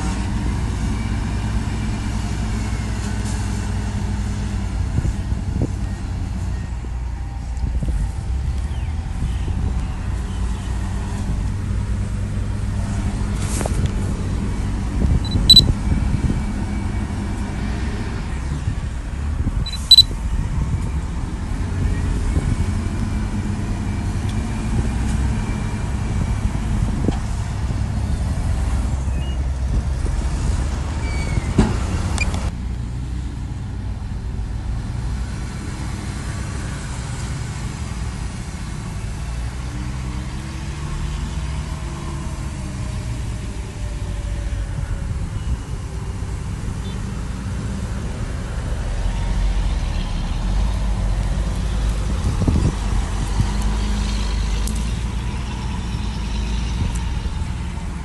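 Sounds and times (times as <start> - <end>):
diesel engine rumble: 0.0 - 58.0.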